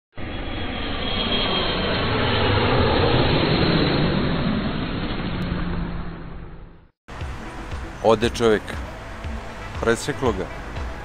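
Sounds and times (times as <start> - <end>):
loud rushing roar: 0.2 - 11.0.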